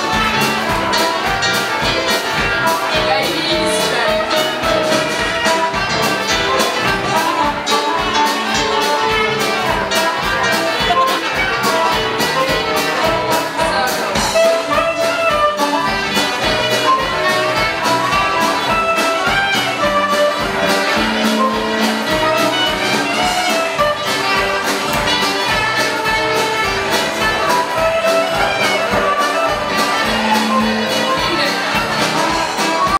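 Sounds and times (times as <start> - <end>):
folk dance band playing: 0.0 - 32.9.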